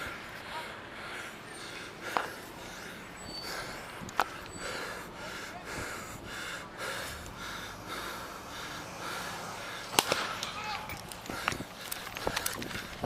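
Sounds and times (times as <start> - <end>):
person breathing hard: 0.0 - 10.4, 11.2 - 13.0.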